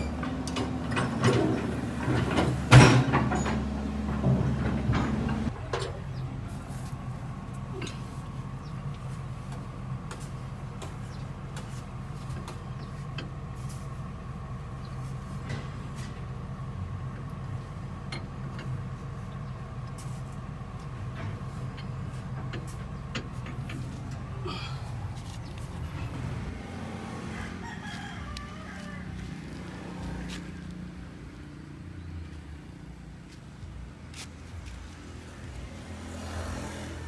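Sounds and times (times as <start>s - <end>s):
engine running with whine: 0.0s - 37.0s.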